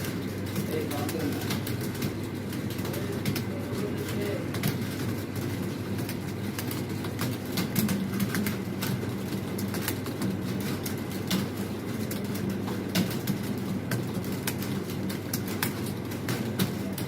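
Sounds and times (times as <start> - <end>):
computer keyboards typing: 0.0 - 17.0.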